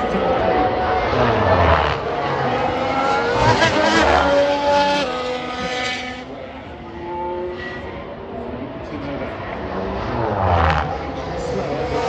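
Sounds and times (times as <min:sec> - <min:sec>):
engine downshifting: 0:00.0 - 0:12.0
racing car engine passing: 0:00.0 - 0:12.0.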